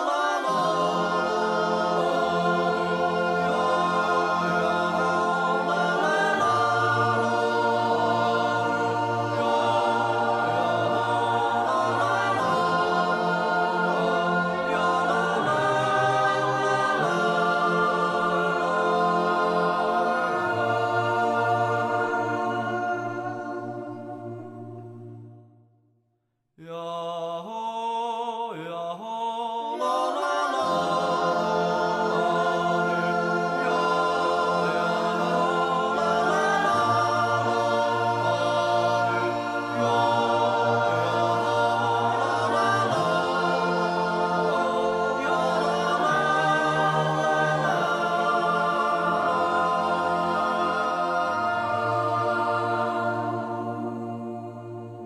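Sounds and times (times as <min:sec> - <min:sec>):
boys' choir yodelling: 0:00.0 - 0:23.8, 0:29.6 - 0:54.6.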